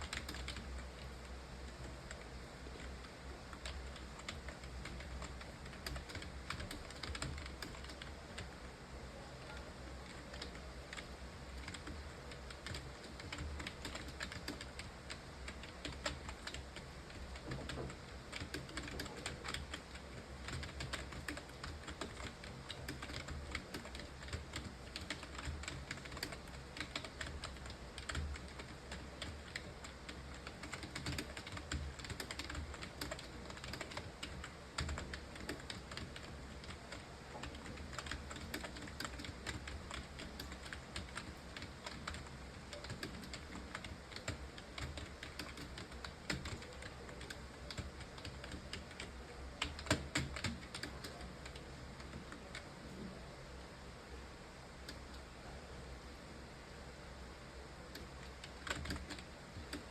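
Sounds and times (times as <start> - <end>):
keyboard typing clicks: 0.0 - 2.9, 3.5 - 8.5, 9.5 - 52.6, 57.9 - 59.9
steady low hum: 0.0 - 59.9.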